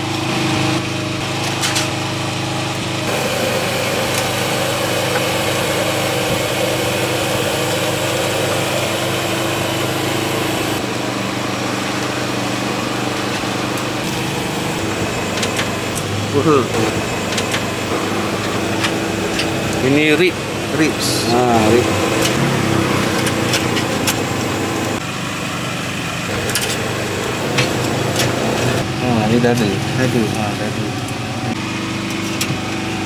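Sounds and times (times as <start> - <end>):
small engine humming: 0.0 - 33.0.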